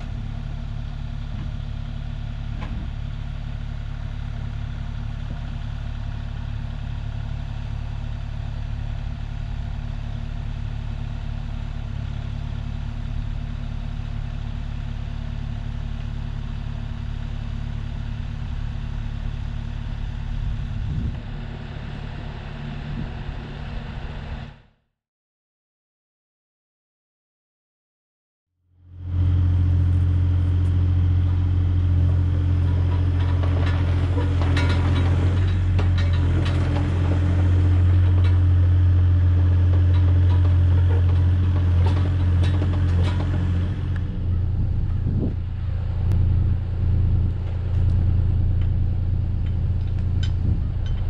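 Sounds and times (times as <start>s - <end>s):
excavator diesel engine running: 0.0s - 24.7s, 28.8s - 51.0s.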